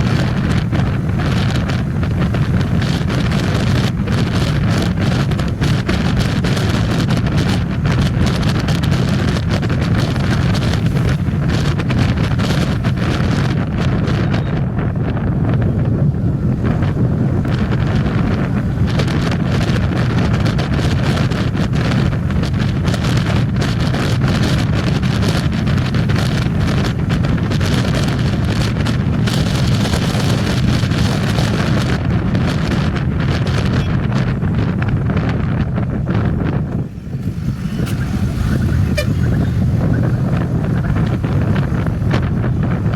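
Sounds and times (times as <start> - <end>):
motorcycle running: 0.0 - 42.9
road noise: 0.0 - 42.9
wind buffeting microphone: 0.0 - 42.9.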